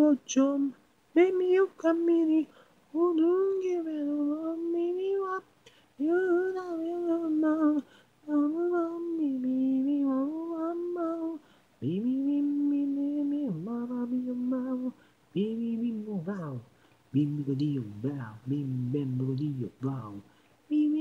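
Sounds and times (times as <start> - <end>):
person singing a cappella: 0.0 - 21.0.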